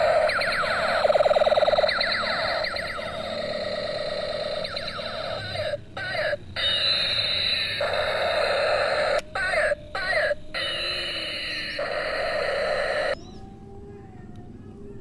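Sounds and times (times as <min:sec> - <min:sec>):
toy gun electronic siren: 0:00.0 - 0:13.4.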